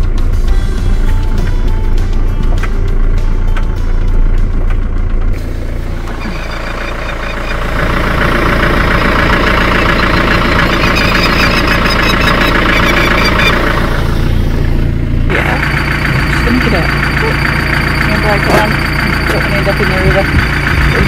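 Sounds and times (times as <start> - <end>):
van engine humming: 0.0 - 21.0.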